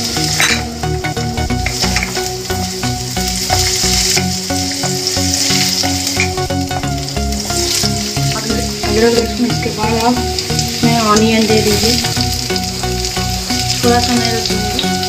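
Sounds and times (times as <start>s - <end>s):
ginger and garlic sizzling in oil: 0.0s - 15.0s.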